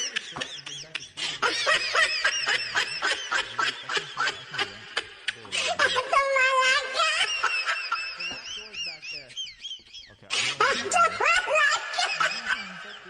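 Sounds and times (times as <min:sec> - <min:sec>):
person laughing hard: 0:00.0 - 0:09.4, 0:10.3 - 0:13.0.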